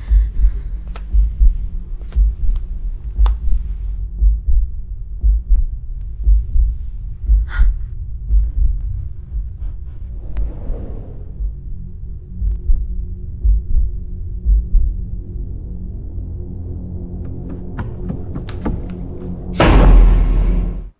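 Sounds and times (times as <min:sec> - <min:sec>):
heartbeat thumps: 0:00.0 - 0:10.6, 0:11.2 - 0:15.7, 0:17.2 - 0:20.4
low hum: 0:00.0 - 0:20.9.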